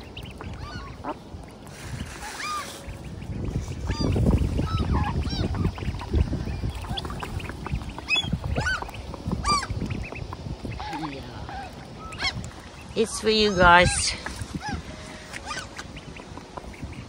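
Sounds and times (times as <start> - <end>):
gulls calling: 0.0 - 17.0
wind rumbling on microphone: 0.0 - 17.0.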